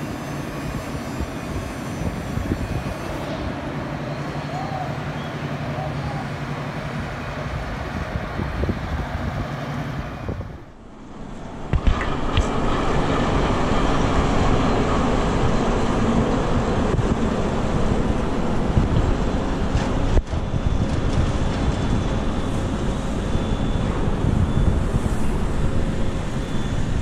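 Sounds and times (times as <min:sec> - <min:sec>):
wind on microphone: 0:00.6 - 0:03.6, 0:07.0 - 0:10.7, 0:11.6 - 0:27.0.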